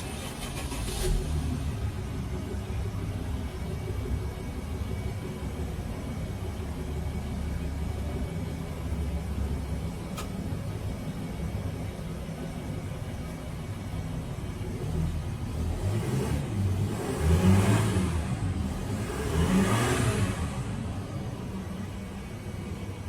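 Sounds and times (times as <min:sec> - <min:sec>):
diesel engine idling and revving: 0:00.0 - 0:23.0.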